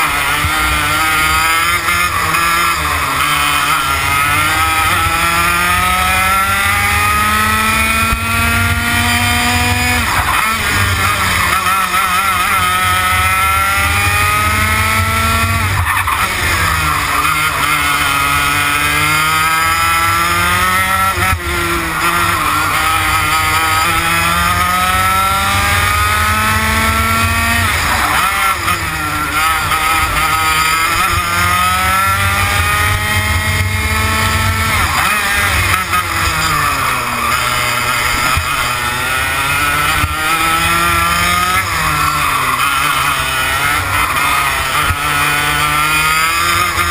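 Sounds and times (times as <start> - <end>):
kart engine revving: 0.0 - 46.9.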